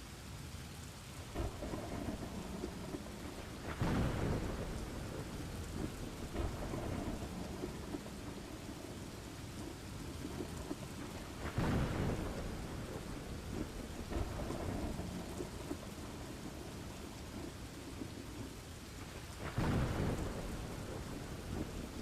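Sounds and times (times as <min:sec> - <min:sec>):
steady rain: 0:00.0 - 0:22.0
thunder rumbles: 0:01.3 - 0:22.0.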